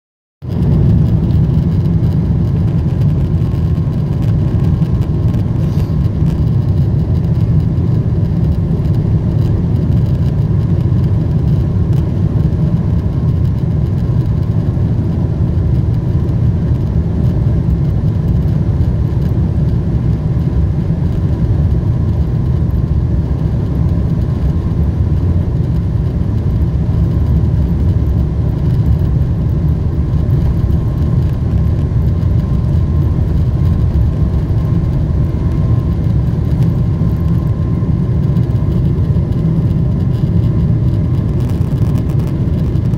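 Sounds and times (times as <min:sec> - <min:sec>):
faint engine whine: 0:00.4 - 0:42.9
jet engines low rumble in cabin: 0:00.4 - 0:42.9.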